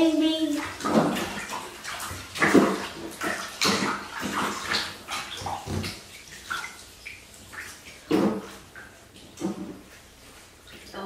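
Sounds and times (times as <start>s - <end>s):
bath water splashing: 0.0s - 11.0s.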